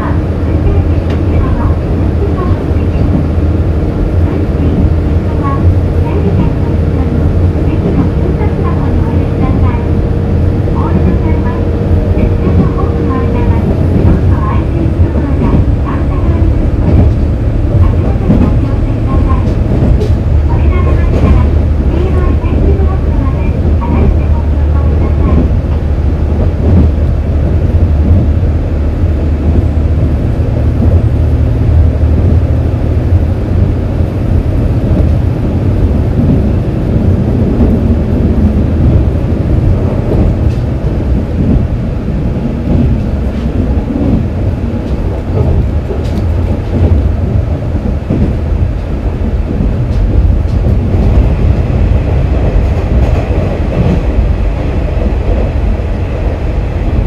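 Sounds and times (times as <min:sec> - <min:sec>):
diesel railcar rumbling on rails: 0:00.0 - 0:57.0.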